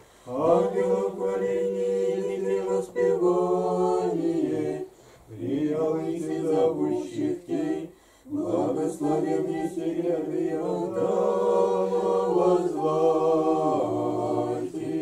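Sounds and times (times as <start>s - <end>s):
choir singing chant: 0.2s - 15.0s.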